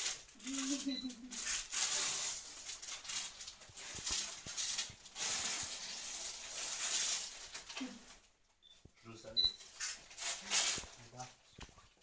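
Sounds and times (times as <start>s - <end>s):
paper rustling and crinkling: 0.0s - 8.3s, 9.6s - 12.0s.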